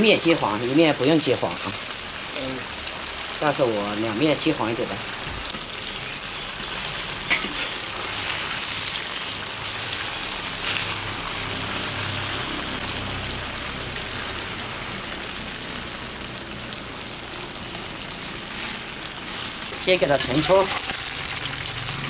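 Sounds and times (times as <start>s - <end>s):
tofu sizzling in hot oil: 0.0s - 22.0s.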